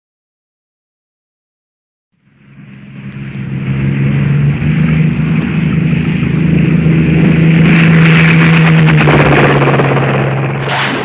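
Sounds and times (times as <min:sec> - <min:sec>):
loud engine running steadily: 0:02.2 - 0:11.0.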